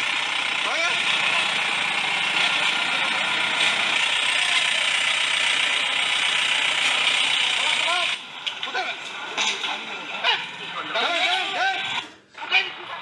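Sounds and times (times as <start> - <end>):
vehicle engine rattling: 0.0 - 13.0.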